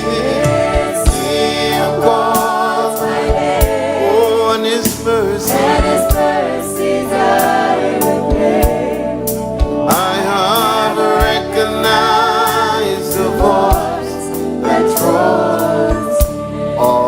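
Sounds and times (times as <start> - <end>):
women singing together: 0.0 - 9.2, 10.7 - 17.0
drum and cymbal strikes: 0.0 - 15.2
backing band: 0.0 - 17.0.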